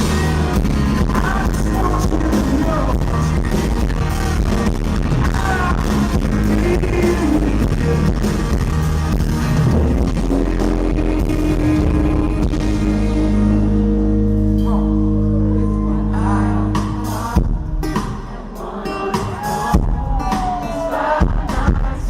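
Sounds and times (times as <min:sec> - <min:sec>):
live pop-rock band playing: 0:00.0 - 0:22.0.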